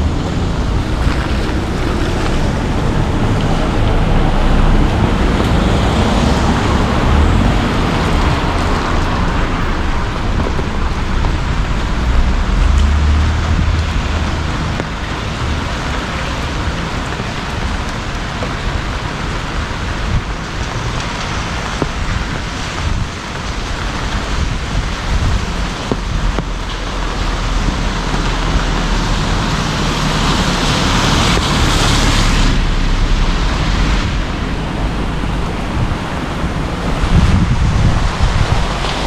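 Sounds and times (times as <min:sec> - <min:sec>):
heavy rain falling: 0:00.0 - 0:39.0
wind noise on microphone: 0:00.0 - 0:39.0.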